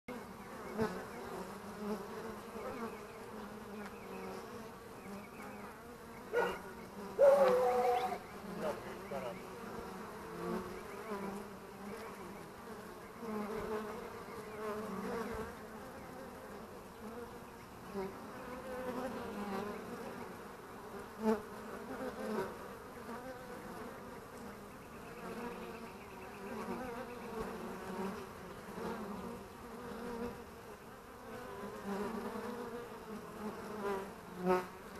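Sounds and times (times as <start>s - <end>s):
bee flying close past: 0.1s - 34.9s
honeybees buzzing: 0.1s - 34.9s.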